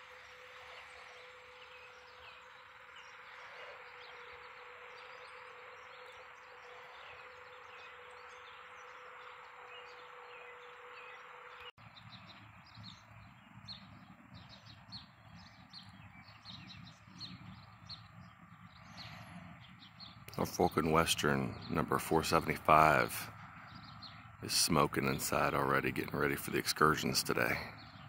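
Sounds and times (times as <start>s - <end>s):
small birds chirping: 0.0s - 28.0s
steady outdoor hiss: 0.0s - 28.0s.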